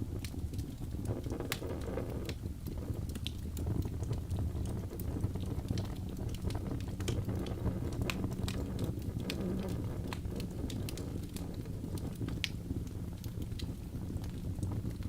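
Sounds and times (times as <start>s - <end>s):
logs crackling in a fireplace: 0.0s - 15.0s.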